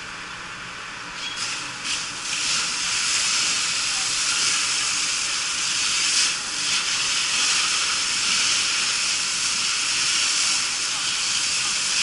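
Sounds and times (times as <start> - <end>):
fire hose spraying water hiss: 1.4 - 12.0.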